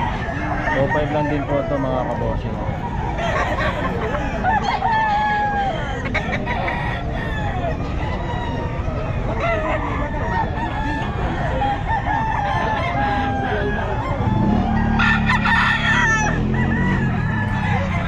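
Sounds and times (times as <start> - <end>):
roosters crowing and clucking: 0.0 - 18.0.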